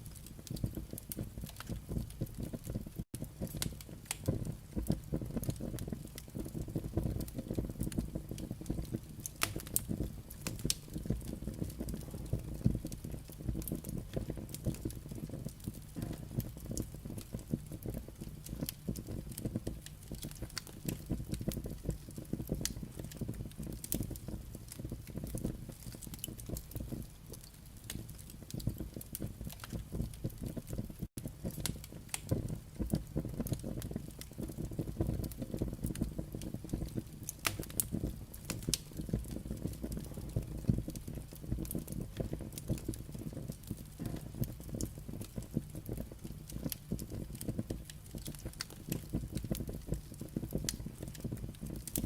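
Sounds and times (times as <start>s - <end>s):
firewood crackling: 0.0s - 52.0s.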